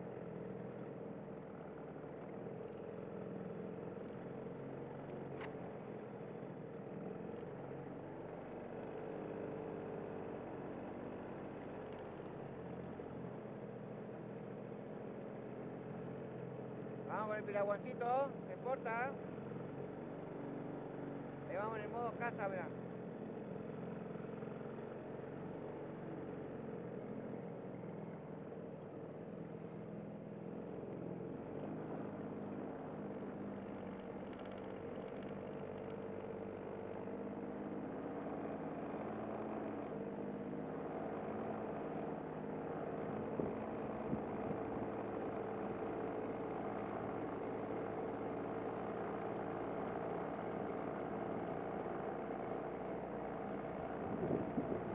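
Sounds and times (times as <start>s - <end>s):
outboard motor running: 0.0s - 54.9s.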